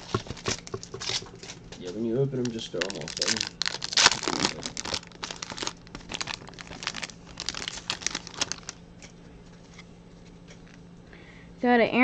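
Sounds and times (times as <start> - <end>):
plastic wrappers crinkling and tearing: 0.0 - 10.8.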